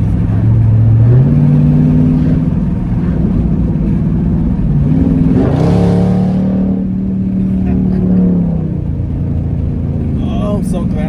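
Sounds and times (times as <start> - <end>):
loud car exhaust while driving: 0.0 - 11.0.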